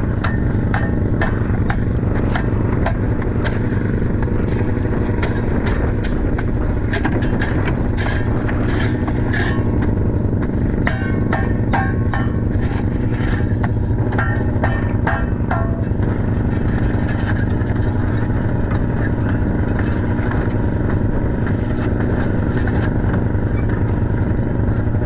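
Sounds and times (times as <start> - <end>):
sharp knocks and clatter: 0.0 - 25.0
snowmobile engine idling: 0.0 - 25.0.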